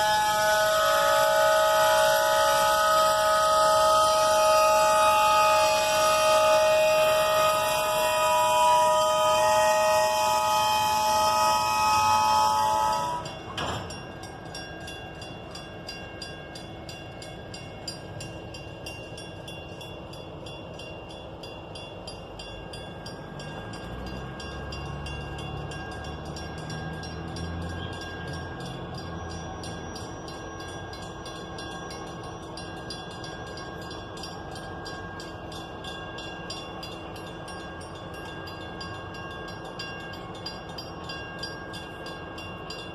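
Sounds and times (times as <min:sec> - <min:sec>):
rail cars rolling rumble: 0:00.0 - 0:42.9
steel wheels squealing on rail: 0:00.0 - 0:42.9.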